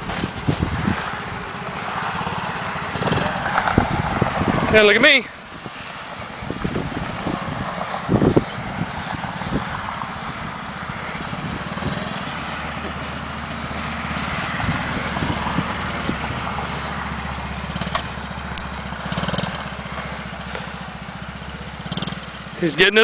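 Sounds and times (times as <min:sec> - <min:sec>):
small motorcycle engine running: 0:00.0 - 0:05.2, 0:06.5 - 0:23.0.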